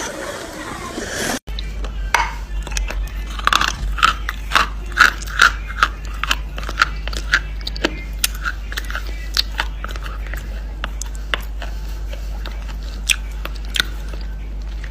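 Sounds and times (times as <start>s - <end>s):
low electrical hum: 0.0s - 14.9s
crunchy chewing: 2.5s - 14.9s.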